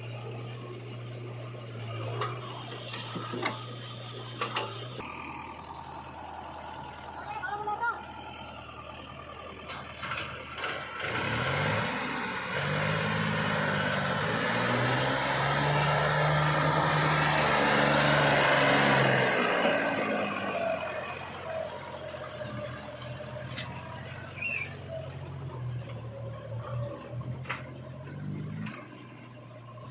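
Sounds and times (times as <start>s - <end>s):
heavy machine engine revving: 0.0s - 29.9s.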